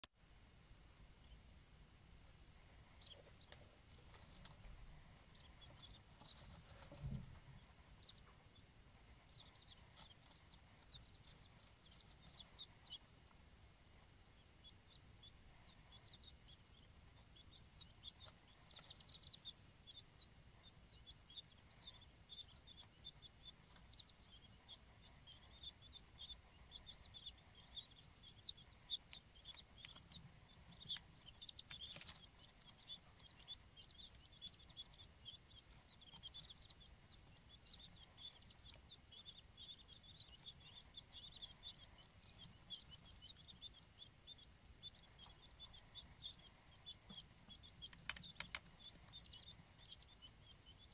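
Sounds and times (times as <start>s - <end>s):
quail chicks peeping: 0.0s - 50.9s.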